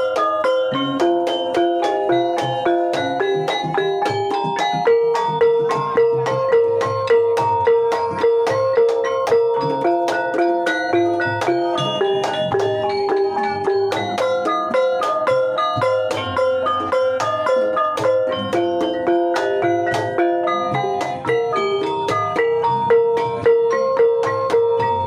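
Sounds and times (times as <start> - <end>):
hand drums: 0.0 - 25.0
keyed instrument struck with mallets: 0.0 - 25.0.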